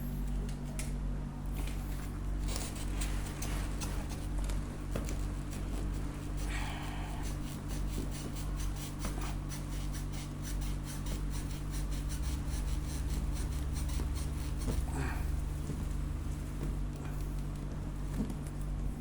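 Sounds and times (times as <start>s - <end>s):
steady low hum: 0.0s - 19.0s
scratching on cardboard packaging: 1.6s - 18.8s.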